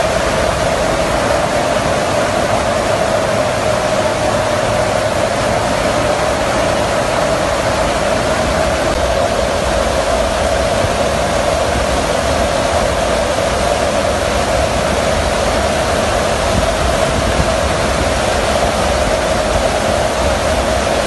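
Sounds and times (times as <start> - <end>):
aircraft engine drone: 0.0 - 21.0
rush of air: 0.0 - 21.0
steady hum: 0.0 - 21.0.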